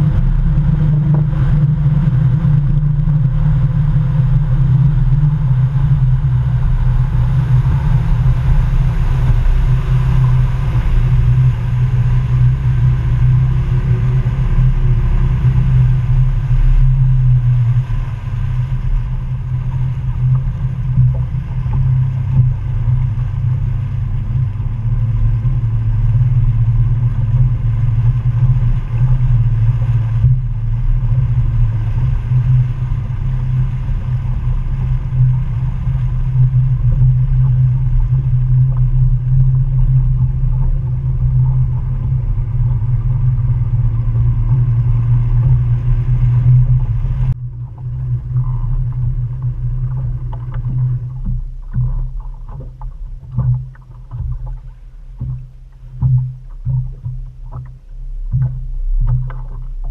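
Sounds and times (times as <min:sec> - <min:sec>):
outboard motor running: 0:00.0 - 0:59.9
water rushing along hull: 0:00.0 - 0:59.9
wind on microphone: 0:00.0 - 0:59.9.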